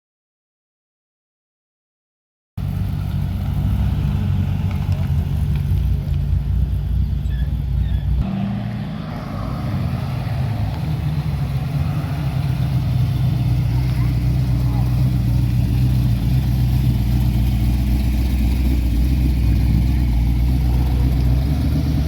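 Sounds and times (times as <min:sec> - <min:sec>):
car engine running: 0:02.6 - 0:22.0.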